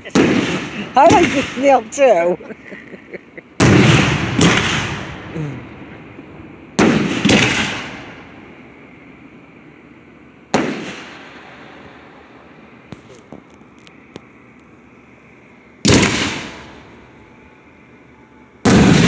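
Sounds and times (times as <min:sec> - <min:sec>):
fireworks shells booming: 0:00.0 - 0:19.0.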